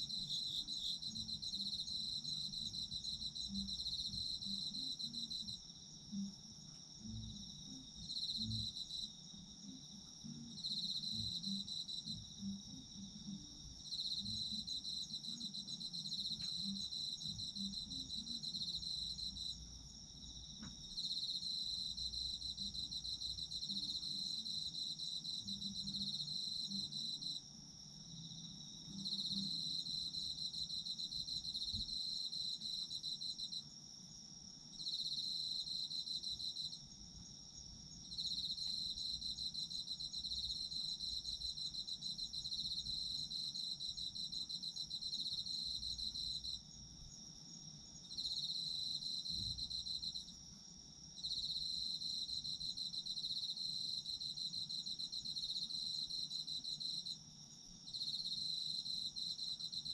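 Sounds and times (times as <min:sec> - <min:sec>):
cricket steady high trill: 0:00.0 - 0:59.9
cricket trilling in bouts: 0:00.0 - 0:59.9.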